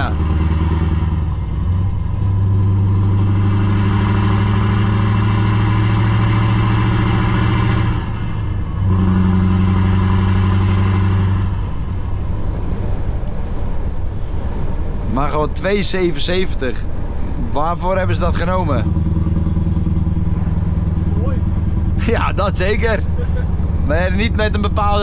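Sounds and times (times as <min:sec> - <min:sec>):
diesel truck engine pulling: 0:00.0 - 0:25.0.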